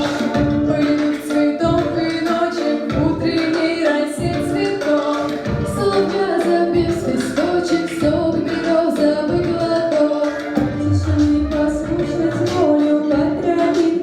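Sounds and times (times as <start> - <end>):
female voices singing together: 0.0 - 14.0.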